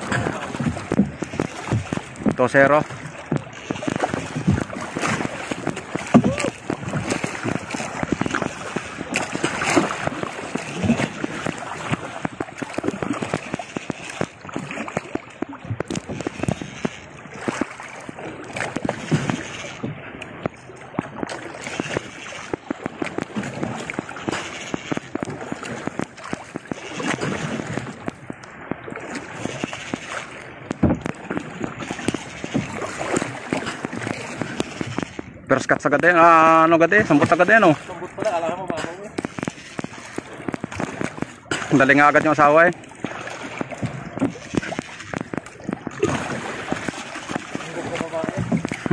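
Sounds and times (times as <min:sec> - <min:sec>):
waves slapping against hull: 0:00.0 - 0:48.9.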